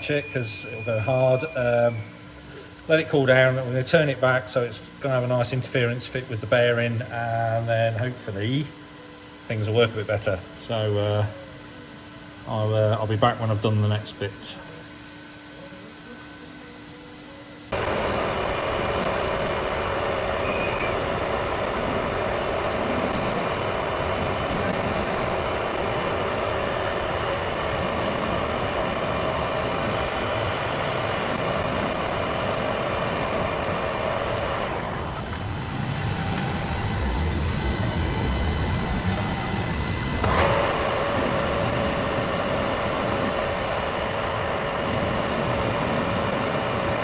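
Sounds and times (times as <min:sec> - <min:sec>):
metal lathe cutting: 0:00.0 - 0:11.3, 0:17.7 - 0:47.0.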